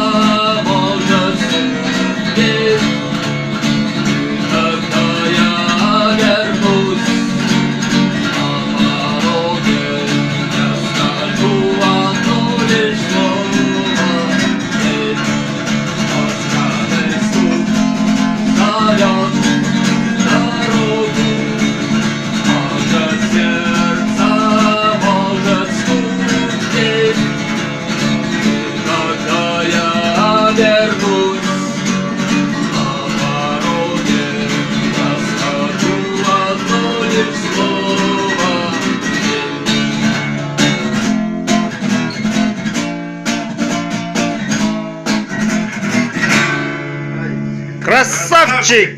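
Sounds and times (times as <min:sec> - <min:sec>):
guitar music: 0:00.0 - 0:48.9.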